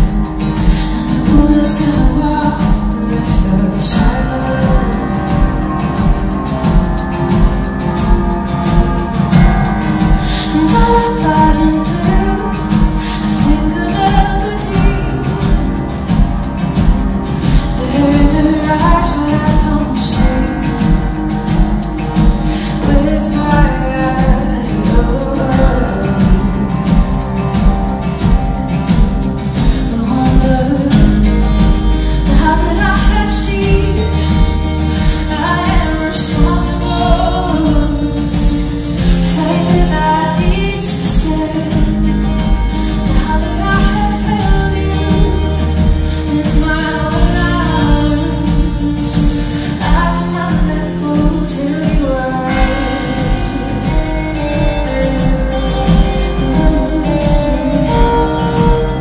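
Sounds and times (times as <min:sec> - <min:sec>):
woman singing: 0:00.0 - 0:28.2, 0:28.9 - 0:59.0
live band playing: 0:00.0 - 0:59.0.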